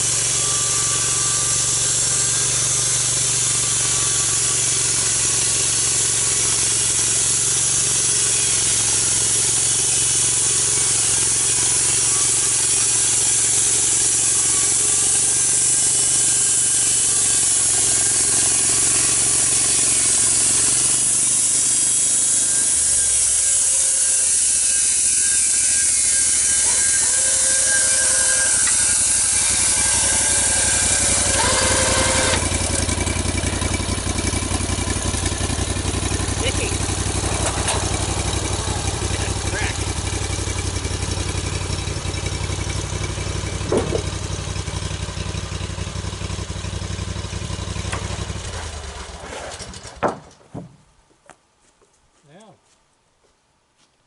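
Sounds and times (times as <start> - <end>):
sawmill blade cutting log: 0.0 - 50.4
engine hum: 0.0 - 51.3.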